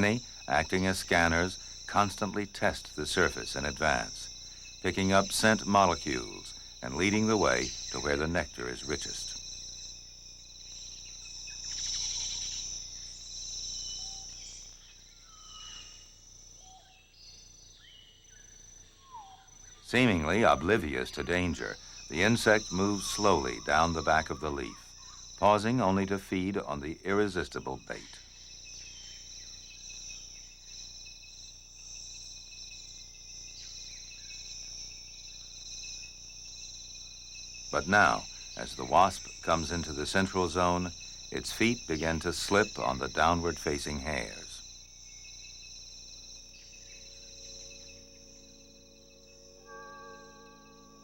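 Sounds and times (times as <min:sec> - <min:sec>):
crickets trilling: 0:00.0 - 0:51.0
insects droning: 0:00.0 - 0:51.0.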